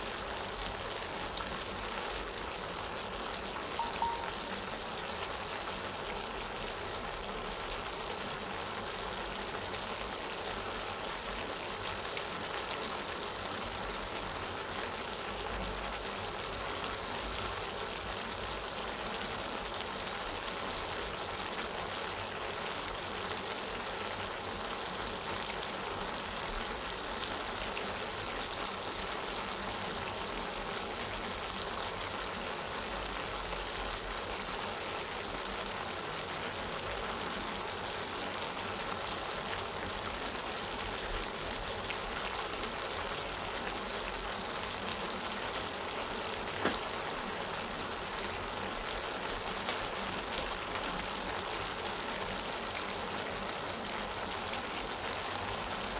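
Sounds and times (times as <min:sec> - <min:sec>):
vegetables sizzling in a pan: 0:00.0 - 0:55.9.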